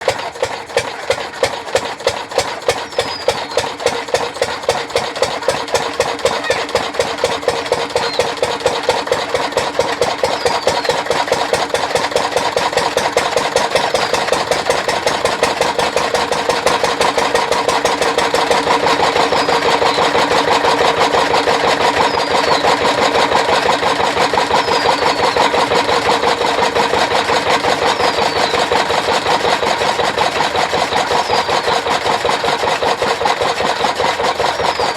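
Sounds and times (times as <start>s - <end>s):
engine running with regular beat: 0.0s - 34.9s.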